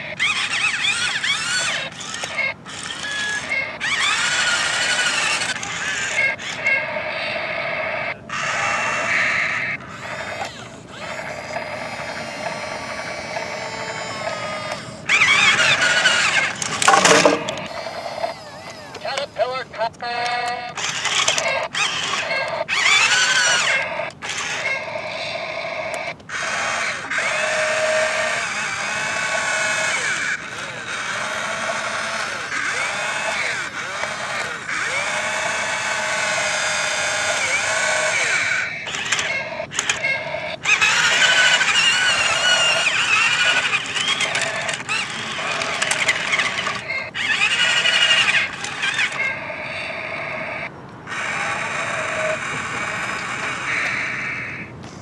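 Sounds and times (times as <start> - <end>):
toy electric motors whining: 0.0 - 55.0.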